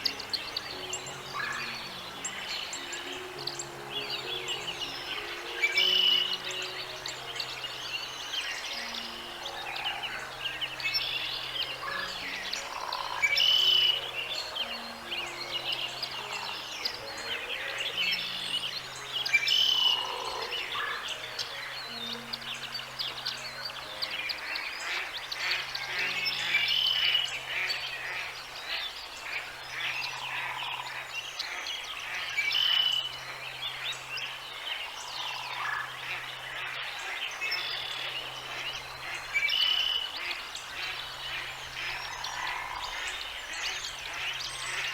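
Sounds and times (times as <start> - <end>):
birds chirping and calling: 0.0 - 44.9
soft music with low held notes: 0.0 - 44.9.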